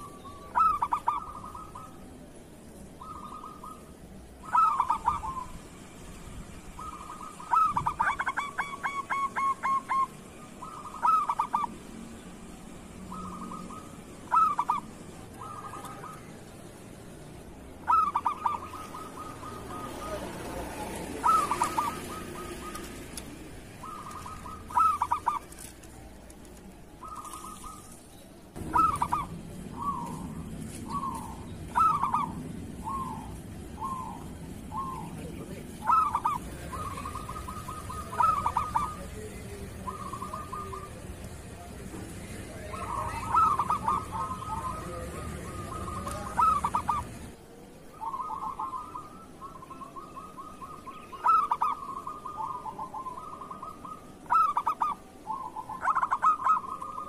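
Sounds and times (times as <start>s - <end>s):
dove cooing: 0.0s - 5.7s, 6.6s - 12.1s, 12.7s - 16.8s, 17.7s - 28.0s, 28.6s - 57.0s.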